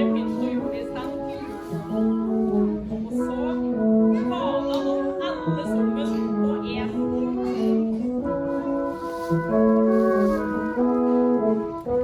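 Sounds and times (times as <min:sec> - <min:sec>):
brass quartet playing chords: 0:00.0 - 0:12.0.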